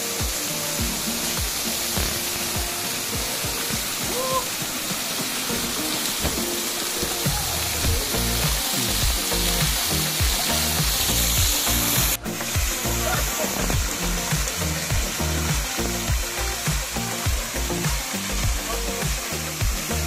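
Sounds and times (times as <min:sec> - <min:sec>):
music with rhythmic bass line: 0:00.0 - 0:04.2, 0:05.3 - 0:20.0
waterfall splashing: 0:00.0 - 0:20.0.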